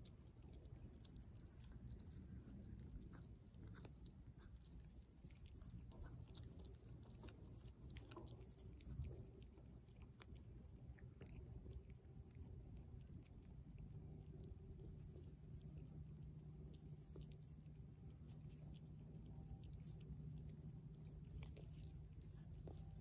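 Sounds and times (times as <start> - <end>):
cat crunching raw fish: 0.0 - 23.0
low steady rumble: 0.0 - 23.0.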